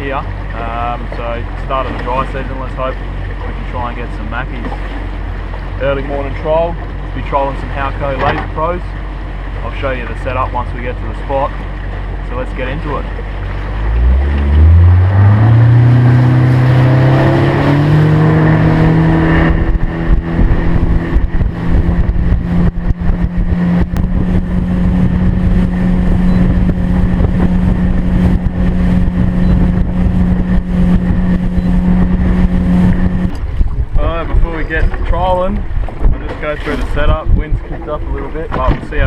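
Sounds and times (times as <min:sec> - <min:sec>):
boat motor accelerating: 0:00.0 - 0:39.0.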